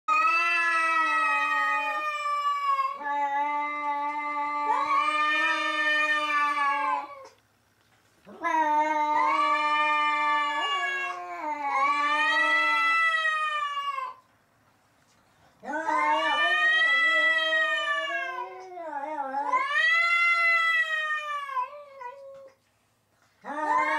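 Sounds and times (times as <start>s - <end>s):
cats yowling: 0.1s - 7.4s, 8.3s - 14.2s, 15.6s - 22.6s, 23.4s - 23.9s.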